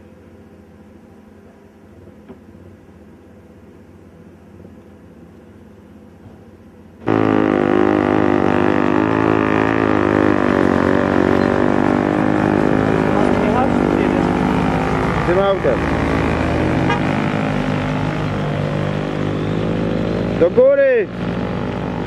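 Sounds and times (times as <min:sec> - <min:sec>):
faint steady hum: 0:00.0 - 0:20.5
vehicle engine droning: 0:00.0 - 0:22.0.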